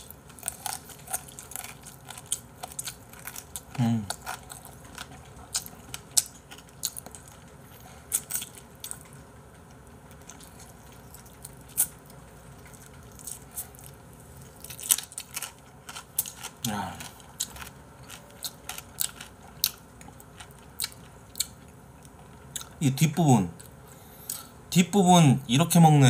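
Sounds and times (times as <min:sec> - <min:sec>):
chewing food: 0:00.0 - 0:22.8.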